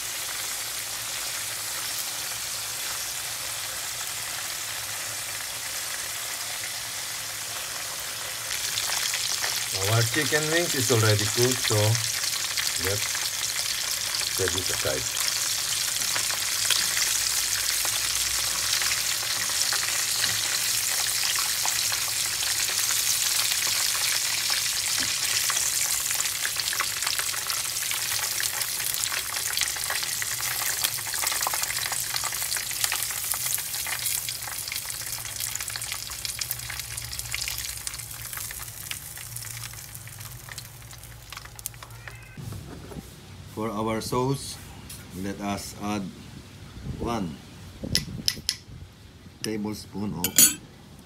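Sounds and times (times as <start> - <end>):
chicken frying in hot oil: 0.0 - 42.4
oil bubbling: 0.0 - 42.4.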